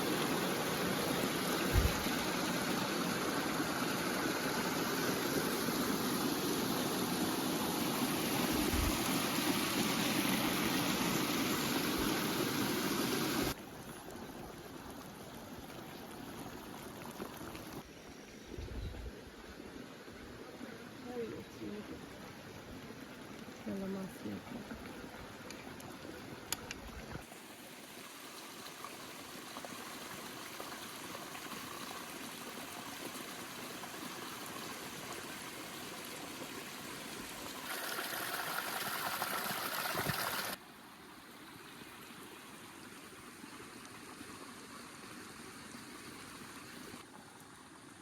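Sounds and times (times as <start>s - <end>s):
running water: 0.0s - 48.0s.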